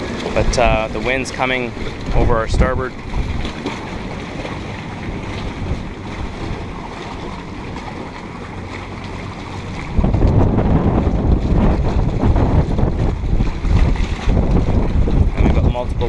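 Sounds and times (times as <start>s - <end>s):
choppy water washing: 0.0s - 16.0s
wind buffeting microphone: 0.0s - 16.0s.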